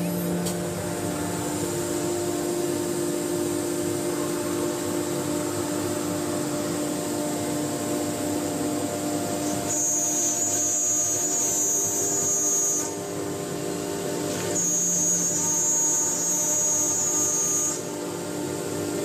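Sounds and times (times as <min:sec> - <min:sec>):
high-pitched machine whine: 0:00.0 - 0:19.0
wood router motor humming: 0:00.0 - 0:19.0.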